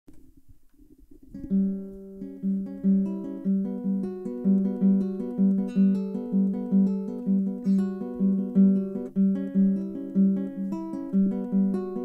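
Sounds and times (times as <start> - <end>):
faint noise: 0.1 - 12.0
picked guitar notes: 1.0 - 12.0.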